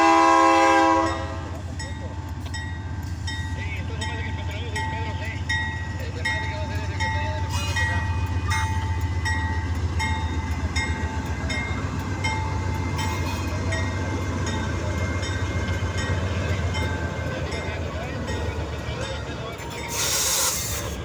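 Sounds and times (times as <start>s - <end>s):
diesel locomotive engines humming: 0.0s - 21.0s.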